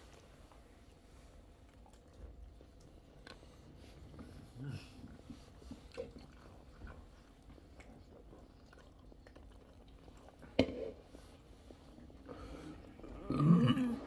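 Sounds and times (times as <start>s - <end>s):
faint chewing and mouth sounds: 0.0s - 14.0s.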